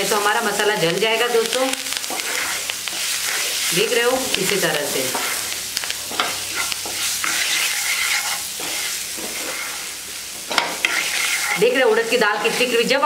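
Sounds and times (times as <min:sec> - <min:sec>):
oil sizzling in pan: 0:00.0 - 0:13.0
spatula scraping frying pan: 0:01.9 - 0:13.0.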